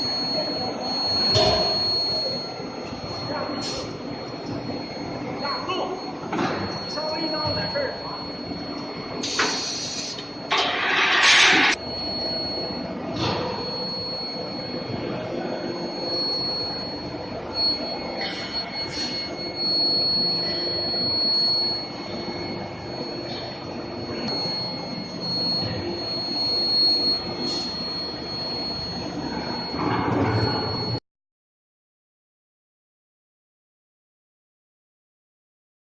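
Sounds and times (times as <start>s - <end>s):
furnace high-pitched whine: 0.0s - 31.0s.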